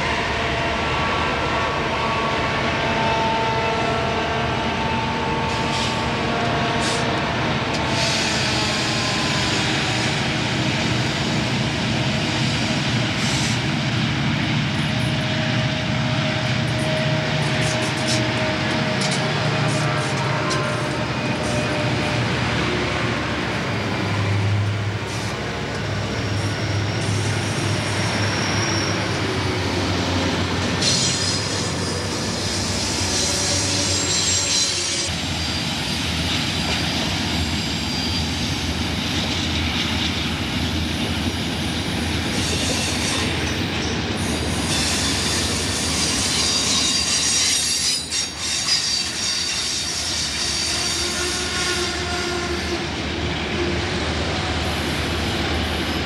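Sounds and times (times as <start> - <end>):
diesel locomotive engines rumbling: 0.0 - 56.0
train wheels squealing on rail: 0.0 - 56.0.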